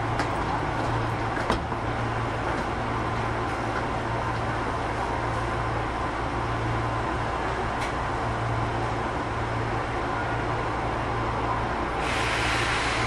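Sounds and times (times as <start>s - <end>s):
subway train running hum: 0.0s - 13.0s.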